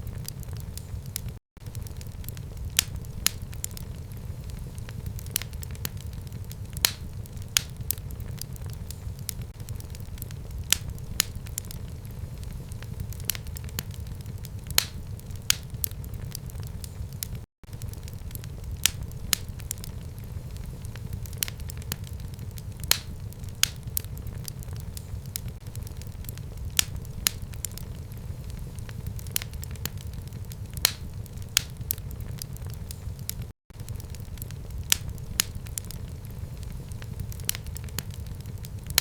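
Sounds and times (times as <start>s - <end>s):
fire crackling in fireplace: 0.0s - 39.0s.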